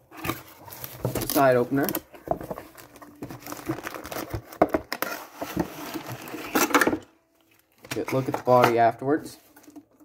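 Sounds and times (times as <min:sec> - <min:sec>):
packaging crinkling and rustling: 0:00.1 - 0:10.0.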